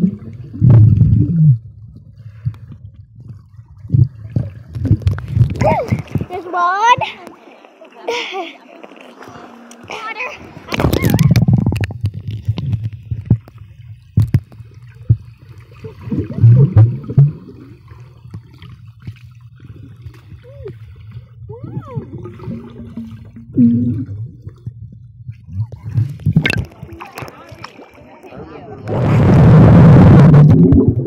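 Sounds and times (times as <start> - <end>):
muffled underwater gurgling rumble: 0.0 - 8.3, 10.4 - 31.0
water sloshing: 0.0 - 28.9.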